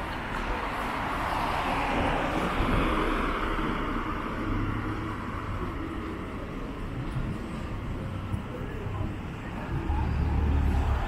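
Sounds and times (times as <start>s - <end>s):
vehicle passing: 0.7s - 11.0s.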